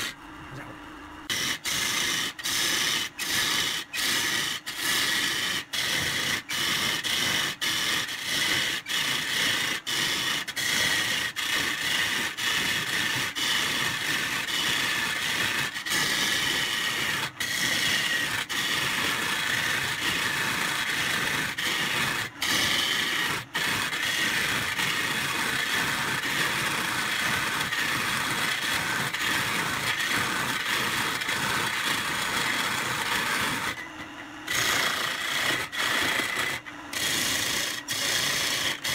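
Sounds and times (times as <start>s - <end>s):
lathe tool scraping wood: 1.3s - 38.9s.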